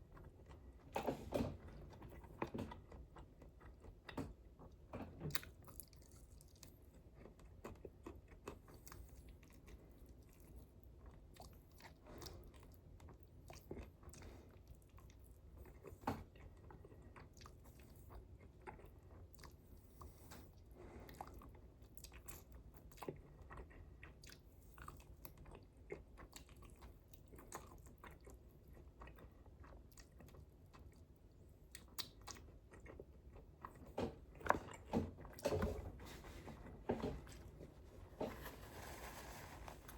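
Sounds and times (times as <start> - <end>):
person chewing food: 0.0 - 1.0, 1.7 - 39.9.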